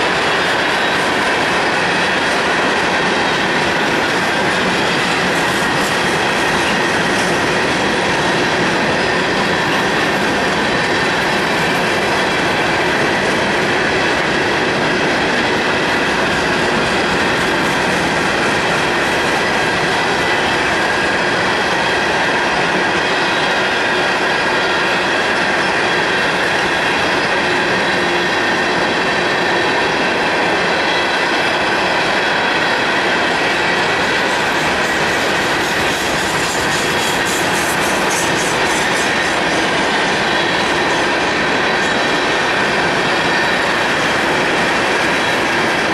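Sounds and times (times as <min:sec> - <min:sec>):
train wheels rolling on rail: 0:00.0 - 0:45.9.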